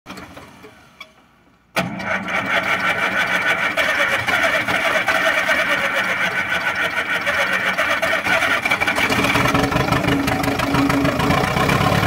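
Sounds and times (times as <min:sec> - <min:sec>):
tractor diesel engine running: 0:01.8 - 0:12.0.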